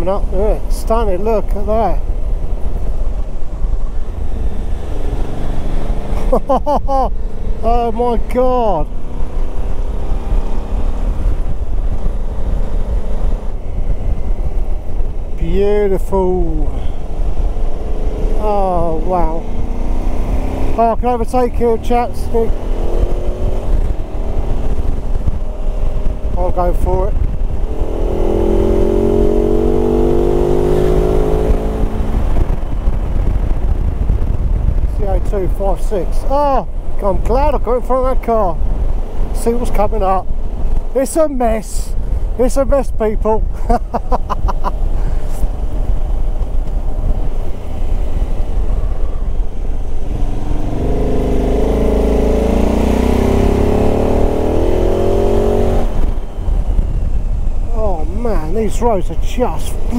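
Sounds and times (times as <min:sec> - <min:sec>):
low wind rumble: 0:00.0 - 0:59.9
motorcycle engine at high revs: 0:00.3 - 0:06.4, 0:07.2 - 0:15.3, 0:16.0 - 0:34.8, 0:43.6 - 0:59.9.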